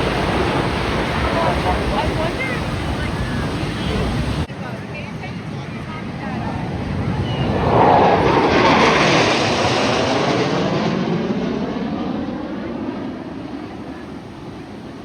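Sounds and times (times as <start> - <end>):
jet flyby: 0.0 - 15.0.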